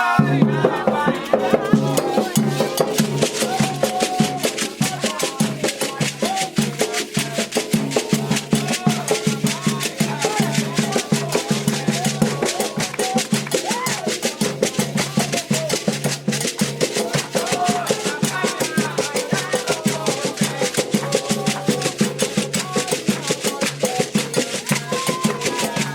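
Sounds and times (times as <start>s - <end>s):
hand drums playing: 0.0s - 25.9s
voices singing a chant: 0.0s - 25.9s.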